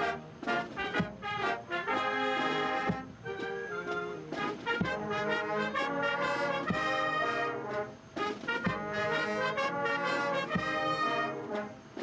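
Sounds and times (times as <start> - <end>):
brass band playing held chords: 0.0 - 12.0.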